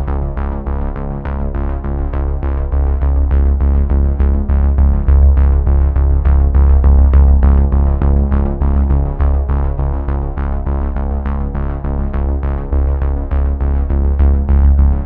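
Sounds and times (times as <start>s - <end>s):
low synth bass: 0.0s - 15.0s.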